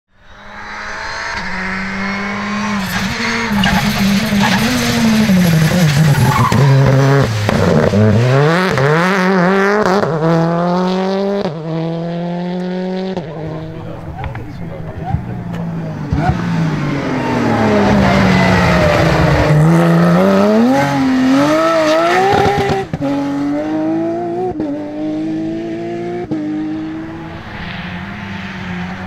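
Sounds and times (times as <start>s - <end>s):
rally car engine revving: 0.2s - 29.0s.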